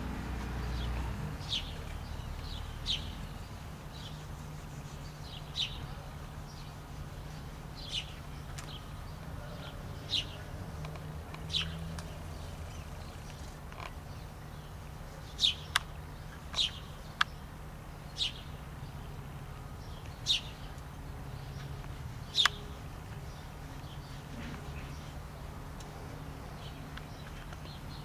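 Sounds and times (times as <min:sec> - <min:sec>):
sparrow chirping: 0:00.0 - 0:28.0
steady low hum: 0:00.0 - 0:28.0.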